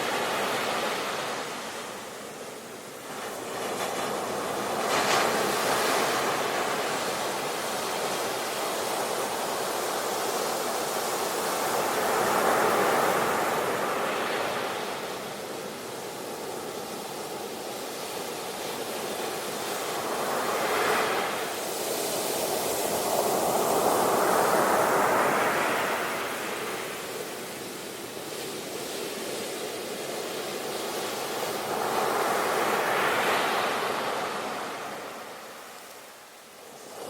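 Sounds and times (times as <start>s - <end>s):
sea waves breaking on shore: 0.0s - 37.0s.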